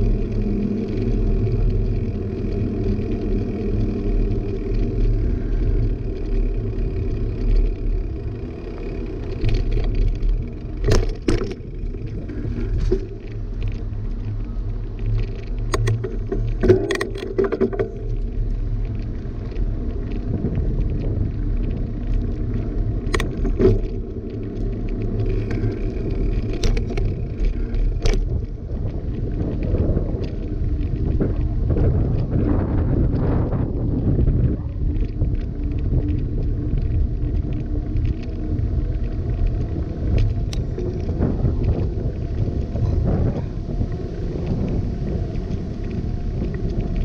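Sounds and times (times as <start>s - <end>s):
bike tyres rumbling on pavement: 0.0s - 47.0s.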